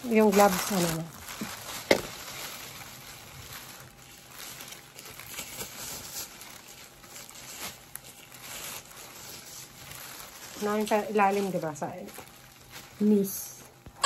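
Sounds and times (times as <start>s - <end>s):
plastic bag rustling: 0.0s - 14.0s.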